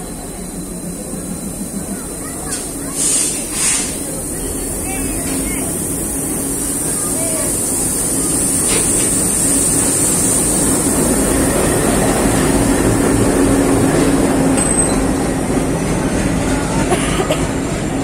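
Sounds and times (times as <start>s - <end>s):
diesel locomotive engine drone: 0.0s - 18.0s
wheels rattling on rails: 0.0s - 18.0s.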